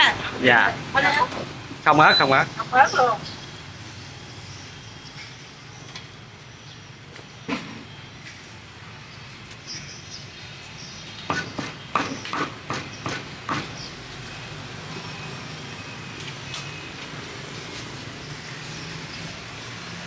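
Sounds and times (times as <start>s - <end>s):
traffic hum: 0.0s - 20.0s.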